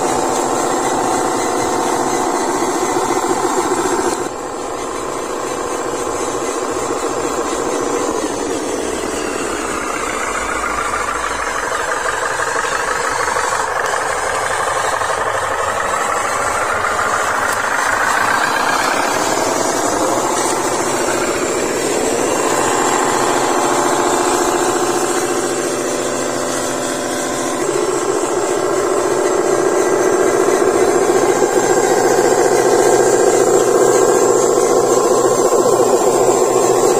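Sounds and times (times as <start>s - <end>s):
model trucks engine drone: 0.0s - 36.9s.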